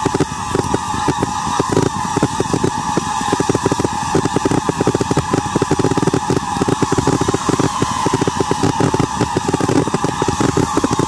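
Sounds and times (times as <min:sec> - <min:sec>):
fireworks barrage: 0:00.0 - 0:11.0.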